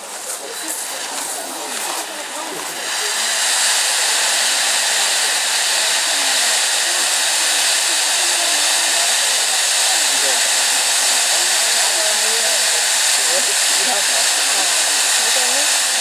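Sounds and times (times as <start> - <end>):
fireworks rushing hiss: 0.0 - 16.0.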